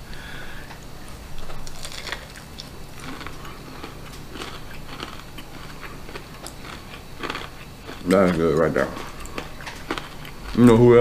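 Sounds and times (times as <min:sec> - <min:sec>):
chewing with crust crackles: 0:00.6 - 0:11.0
crunchy bite into fried fish: 0:01.4 - 0:10.5.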